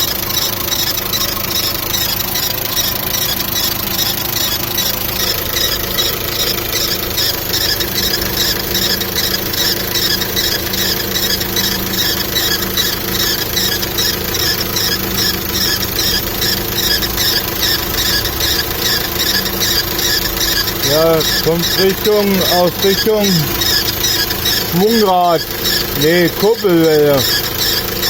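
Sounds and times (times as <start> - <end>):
car engine running: 0.0 - 28.0
rhythmic belt squeal chirping: 0.0 - 28.0.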